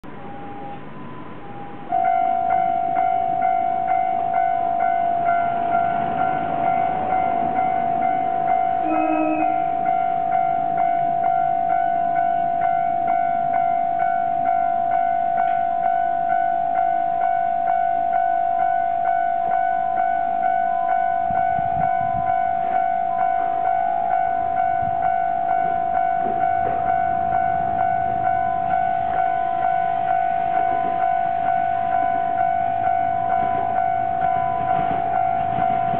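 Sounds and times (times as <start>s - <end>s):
level-crossing warning bell: 0.0s - 35.9s.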